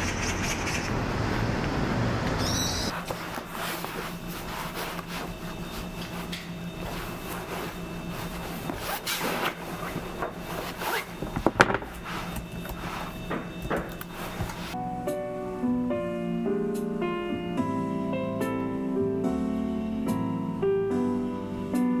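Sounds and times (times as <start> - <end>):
steady low hum: 0.0 - 21.7.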